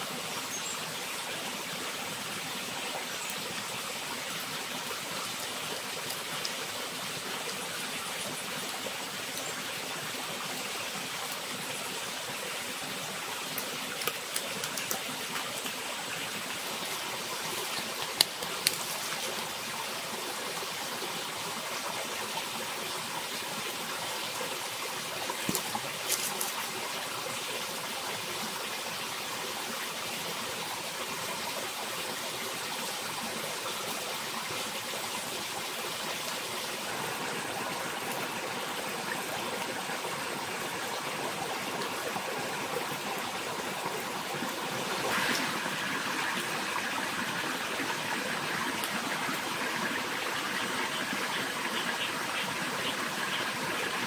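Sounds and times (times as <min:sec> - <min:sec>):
forest stream rushing: 0:00.0 - 0:54.0.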